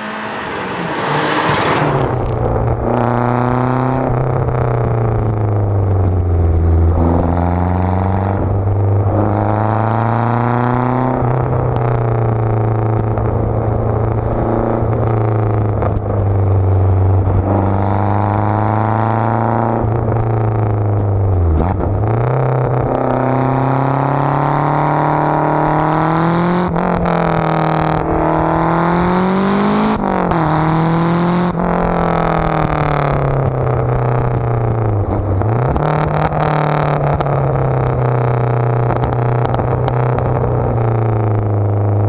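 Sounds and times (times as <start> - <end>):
car engine accelerating hard: 0.0 - 42.0.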